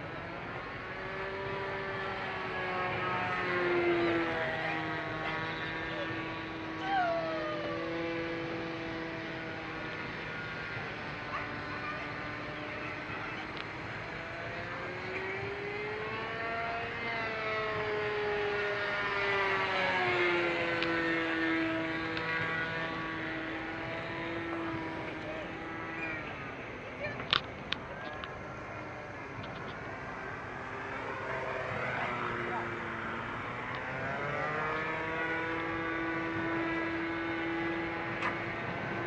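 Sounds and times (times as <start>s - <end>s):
model airplane engine droning: 0.0s - 39.0s.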